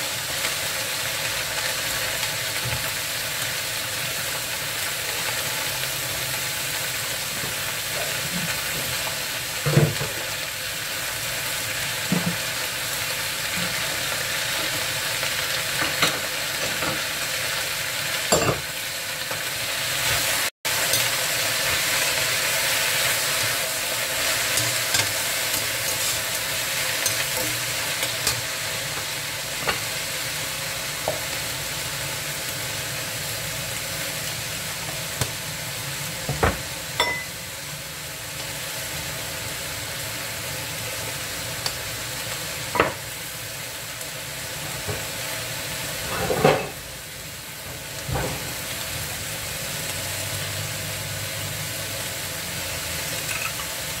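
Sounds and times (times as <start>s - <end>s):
greens sizzling in a wok: 0.0s - 54.0s.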